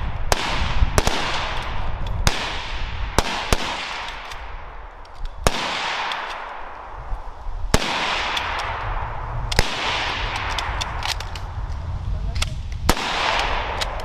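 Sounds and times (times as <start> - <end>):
rifle shots echoing: 0.1 - 11.4, 12.9 - 14.0.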